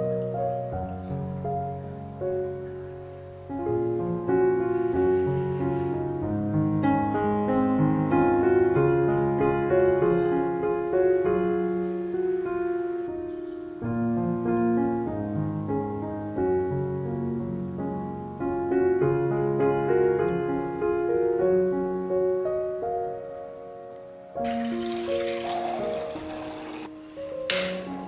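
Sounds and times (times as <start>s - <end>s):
slow gentle piano music: 0.0s - 28.0s.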